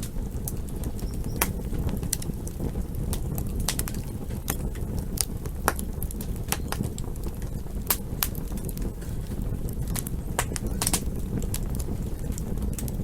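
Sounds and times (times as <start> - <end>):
burning wood crackling and popping: 0.0 - 13.0
campfire flames rumbling: 0.0 - 13.0.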